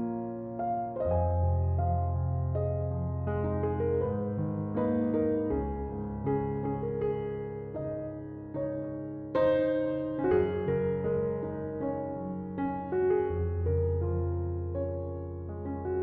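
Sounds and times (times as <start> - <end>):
soft slow piano notes: 0.0 - 16.0.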